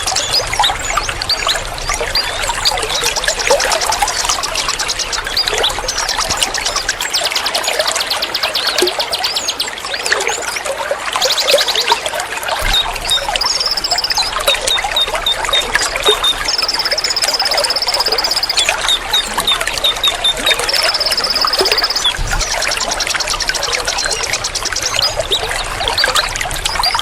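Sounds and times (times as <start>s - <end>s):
songbirds singing: 0.0s - 27.0s
trickling water: 0.0s - 27.0s.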